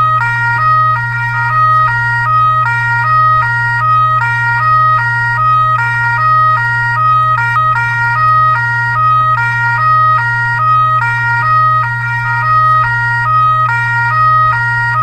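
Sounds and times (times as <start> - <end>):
fire truck siren hi-lo: 0.0 - 15.0
steady low hum: 0.0 - 15.0.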